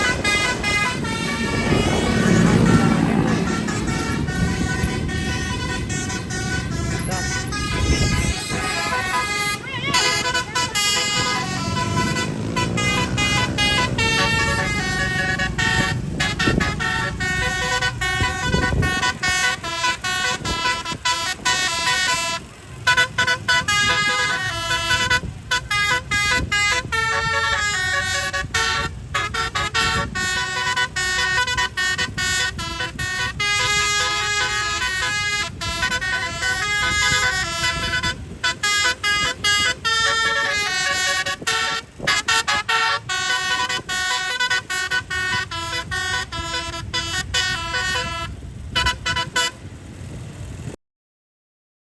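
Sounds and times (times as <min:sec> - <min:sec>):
multi-note bus horns melody: 0:00.0 - 0:50.8.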